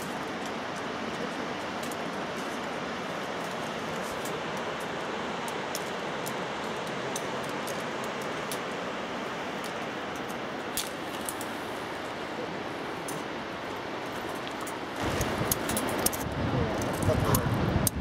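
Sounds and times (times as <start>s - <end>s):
mountain river rushing: 0.0s - 18.0s.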